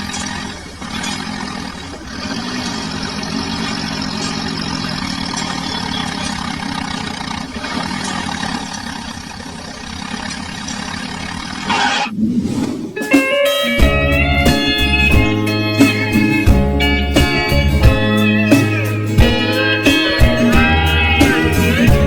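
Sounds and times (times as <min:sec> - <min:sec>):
tractor engine running: 0:00.0 - 0:12.1, 0:13.7 - 0:22.0.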